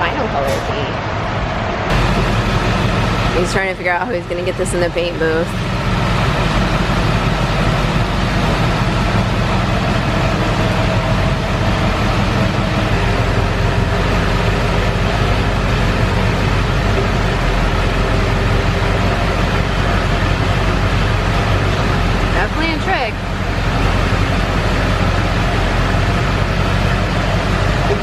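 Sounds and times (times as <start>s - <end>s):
truck engine idling: 1.8s - 28.0s.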